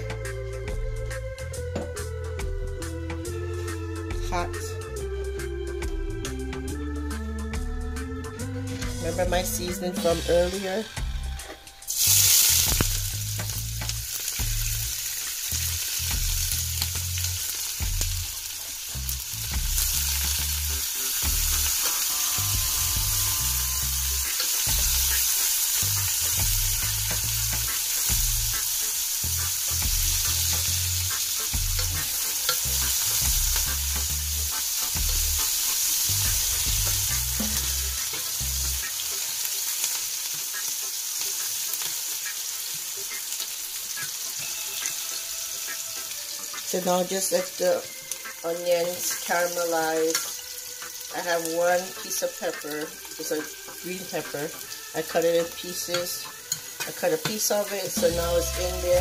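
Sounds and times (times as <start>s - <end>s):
onions sizzling in a pot: 8.7s - 59.0s.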